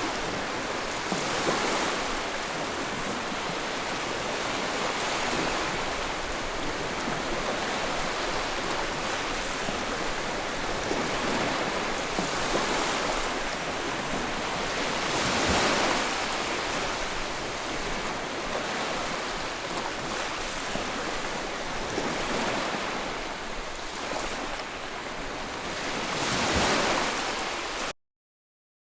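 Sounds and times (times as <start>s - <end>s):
surf hiss on shore: 0.0s - 27.9s
waves breaking: 0.0s - 27.9s.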